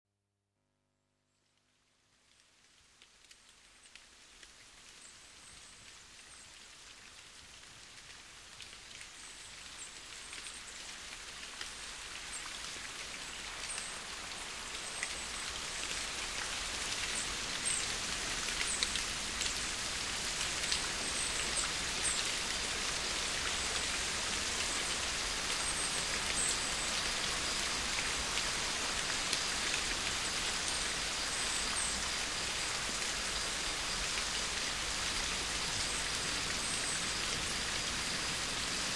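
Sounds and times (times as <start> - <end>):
steady rain: 1.4 - 38.9.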